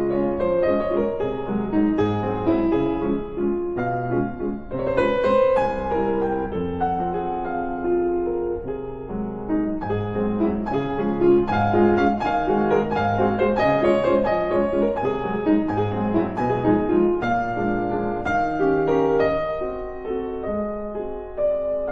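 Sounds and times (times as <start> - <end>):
gentle piano music: 0.0 - 21.9.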